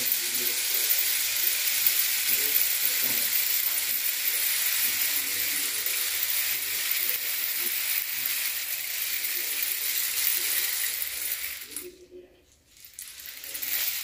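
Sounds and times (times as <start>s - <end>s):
rain stick hissing patter: 0.0s - 14.0s.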